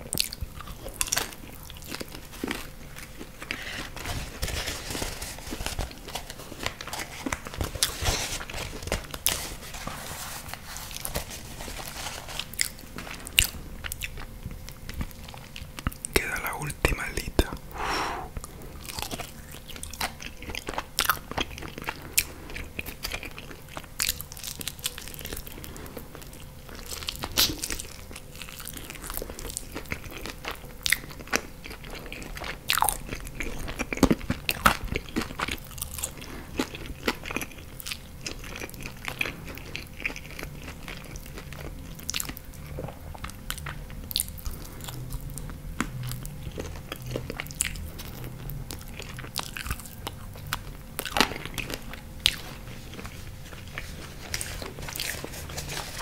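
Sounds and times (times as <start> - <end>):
chewing chicken wings: 0.0 - 4.2, 12.4 - 16.7, 18.4 - 56.0.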